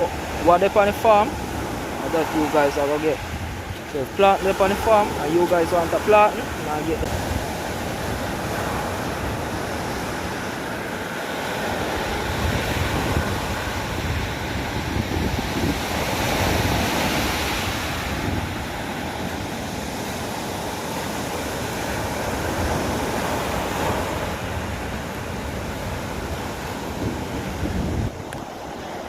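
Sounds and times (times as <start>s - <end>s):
surf washing onto beach: 0.0s - 29.0s
wind on microphone: 0.0s - 29.0s.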